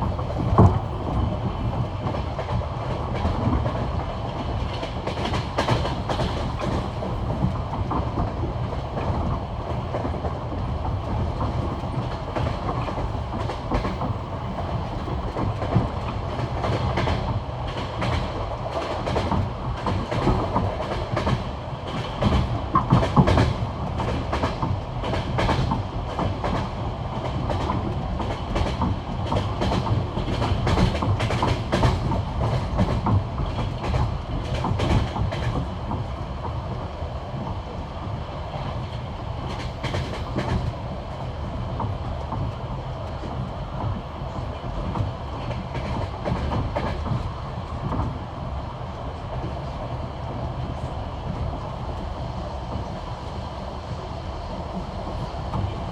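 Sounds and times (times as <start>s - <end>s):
train wheels clattering over rail joints: 0.0s - 36.8s, 38.5s - 48.2s.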